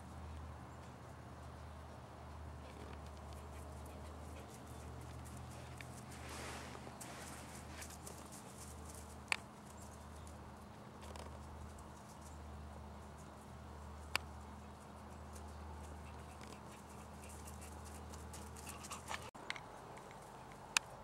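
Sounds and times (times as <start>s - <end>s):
dog paws trotting on grass: 0.2s - 19.3s.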